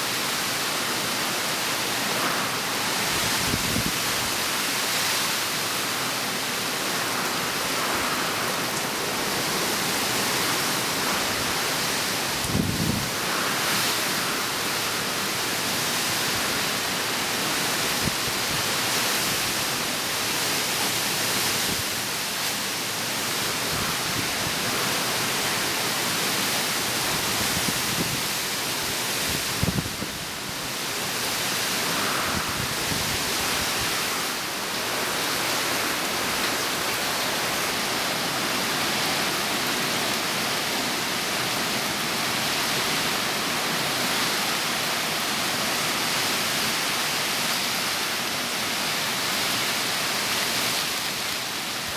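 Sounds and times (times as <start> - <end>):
heavy rain on foliage: 0.0 - 51.9.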